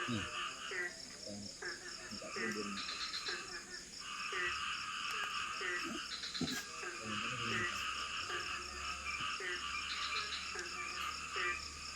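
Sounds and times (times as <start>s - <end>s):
frogs croaking: 0.0s - 11.9s
high-pitched insect drone: 0.0s - 11.9s.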